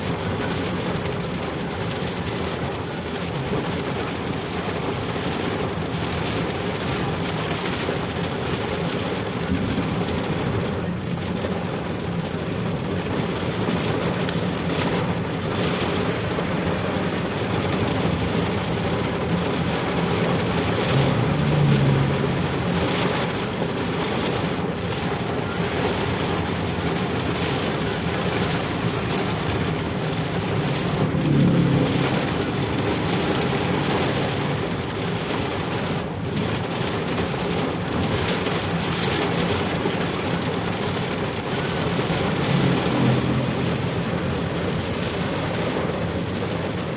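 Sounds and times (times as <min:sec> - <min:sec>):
road and wind noise: 0:00.0 - 0:46.9
vehicle engine running: 0:07.8 - 0:46.9.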